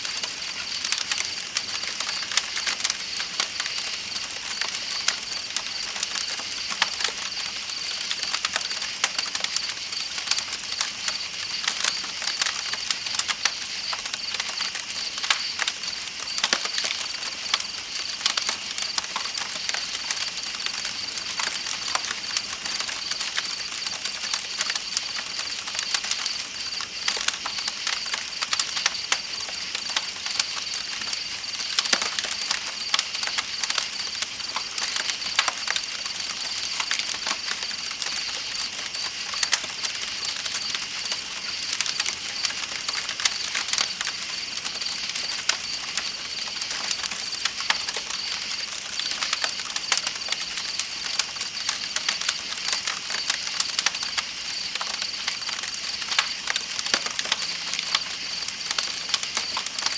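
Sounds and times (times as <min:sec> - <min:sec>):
night insects trilling: 0:00.0 - 0:59.9
campfire crackling and popping: 0:00.1 - 0:59.9.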